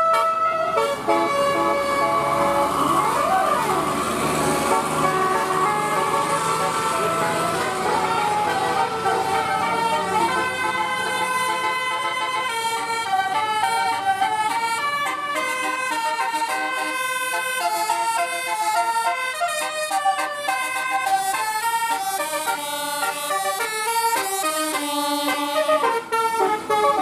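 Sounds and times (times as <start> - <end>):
bus air horns playing a tune: 0.0 - 27.0.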